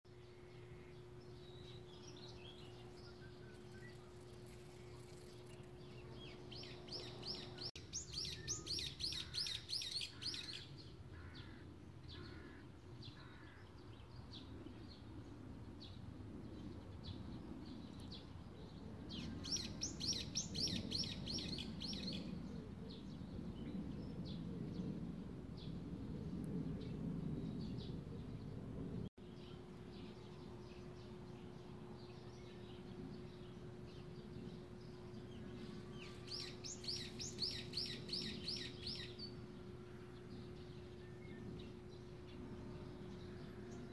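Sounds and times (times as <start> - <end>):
small birds chirping: 0.1 - 15.8, 16.6 - 25.0, 29.3 - 43.9
faint hum: 0.1 - 43.9.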